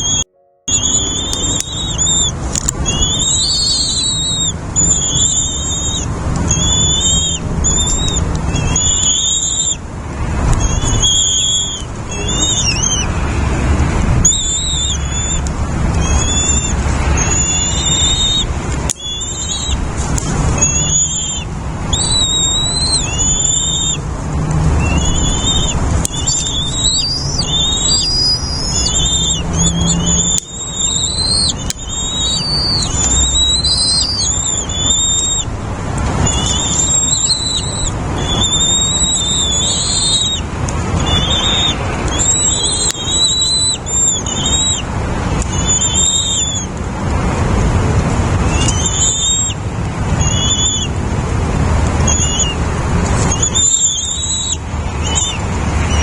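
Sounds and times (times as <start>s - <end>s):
nestling birds calling: 0.0s - 47.2s, 47.8s - 51.2s, 51.8s - 56.0s.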